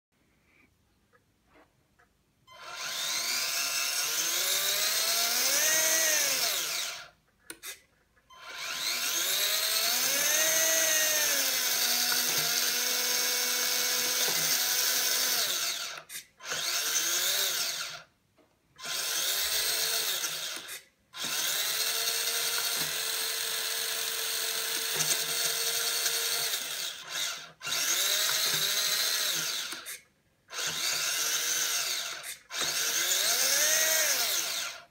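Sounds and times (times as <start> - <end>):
rc truck motor whining: 2.5 - 18.1, 18.8 - 34.9.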